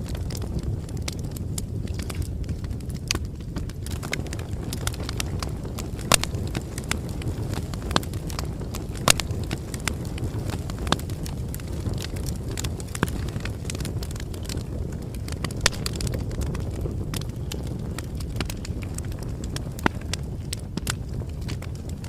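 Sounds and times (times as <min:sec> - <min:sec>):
bonfire crackling and popping: 0:00.0 - 0:22.0
low rumble of burning: 0:00.0 - 0:22.0.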